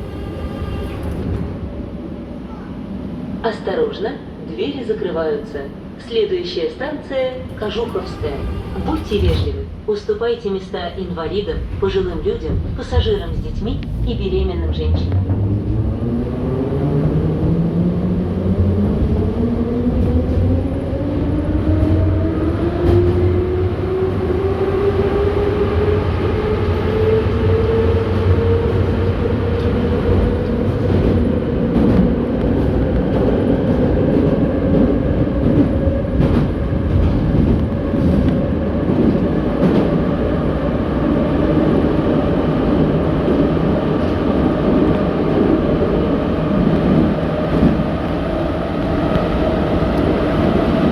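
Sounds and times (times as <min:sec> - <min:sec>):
train wheels rumbling: 0:04.6 - 0:50.9.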